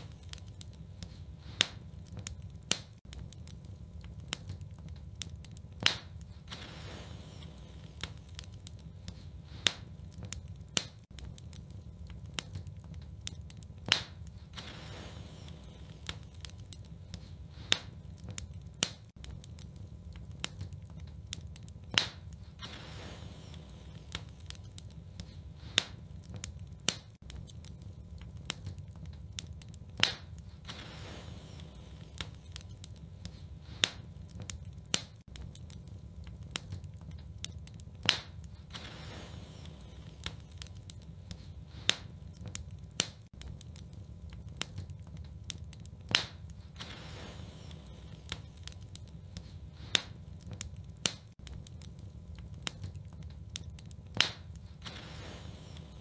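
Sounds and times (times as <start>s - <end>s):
fire low rumble: 0.0s - 56.0s
fire popping: 0.0s - 56.0s
wood fire crackling: 0.0s - 56.0s.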